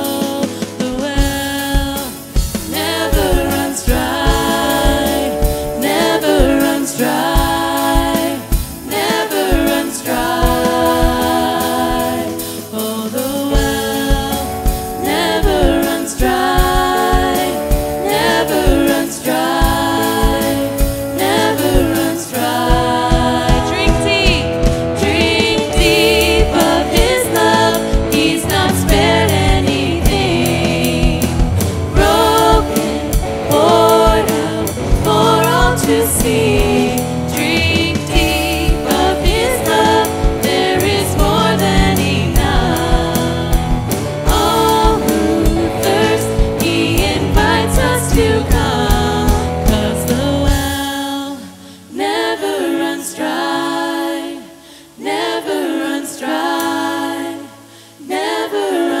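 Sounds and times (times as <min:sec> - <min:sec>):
full band with drum beat: 0:00.0 - 0:51.0
voices singing worship song: 0:00.0 - 0:59.0.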